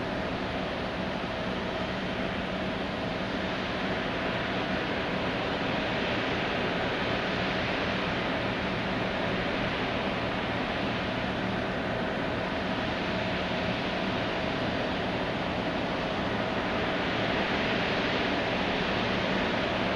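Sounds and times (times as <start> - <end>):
wind: 0.0 - 19.9.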